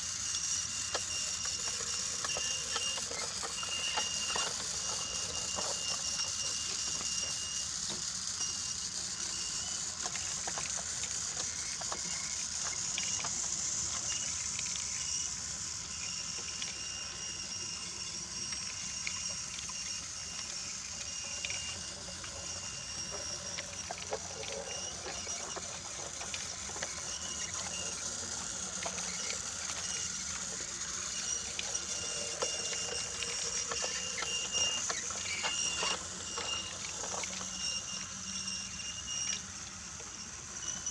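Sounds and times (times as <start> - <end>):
toy train motor whirring: 0.0 - 40.9
wheels clicking over track joints: 0.0 - 40.9.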